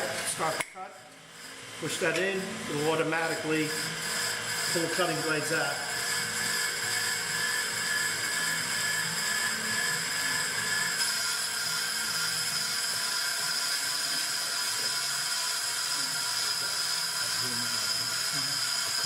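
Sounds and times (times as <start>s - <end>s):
brake lathe whine with hiss: 0.0s - 19.0s.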